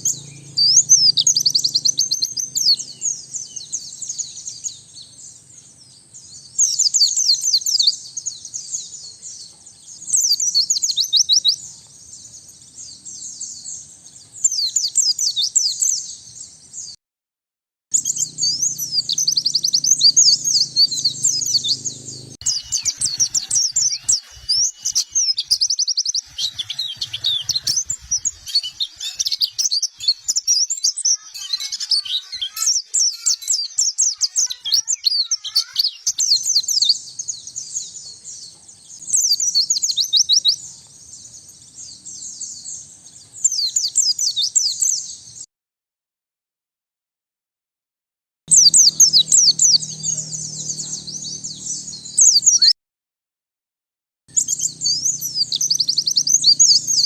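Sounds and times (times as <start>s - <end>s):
bird twittering song: 0.0s - 17.0s, 18.0s - 45.5s, 48.5s - 52.8s, 54.3s - 57.0s.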